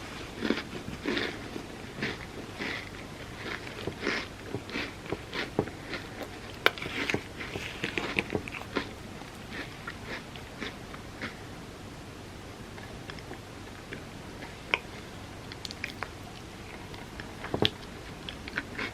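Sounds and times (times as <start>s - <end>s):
chewing and crunching: 0.2s - 11.5s, 12.8s - 18.9s.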